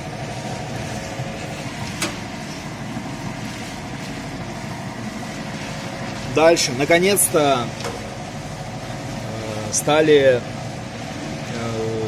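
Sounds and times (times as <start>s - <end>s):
grinding mill motor running: 0.0s - 12.0s.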